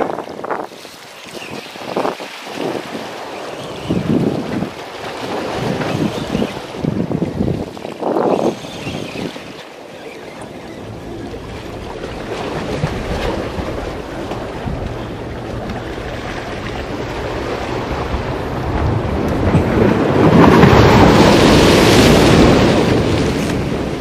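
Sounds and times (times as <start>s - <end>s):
sea waves washing: 0.0s - 24.0s
wind buffeting microphone: 0.0s - 24.0s.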